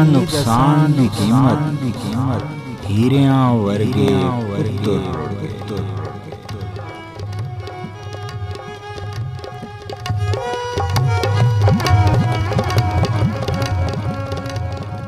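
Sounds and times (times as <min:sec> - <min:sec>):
sustained melody: 0:00.0 - 0:14.8.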